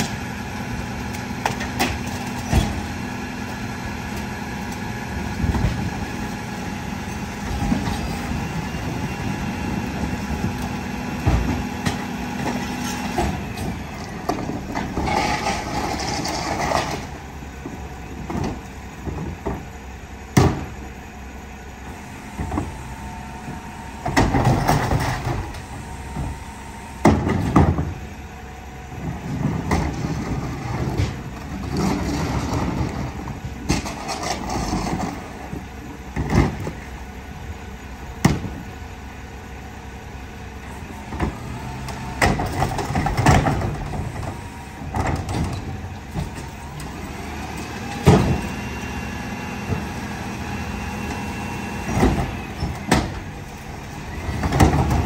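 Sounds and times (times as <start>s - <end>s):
garbage truck engine and hydraulics: 0.0s - 55.0s.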